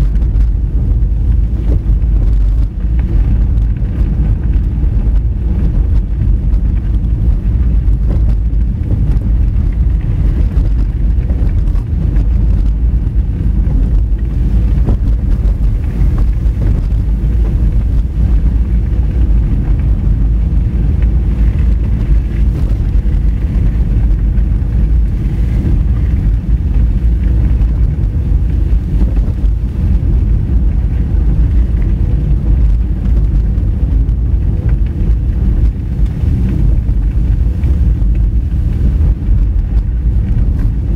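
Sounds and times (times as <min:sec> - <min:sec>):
tyres rumbling on gravel: 0:00.0 - 0:40.9
wind buffeting microphone: 0:00.0 - 0:40.9.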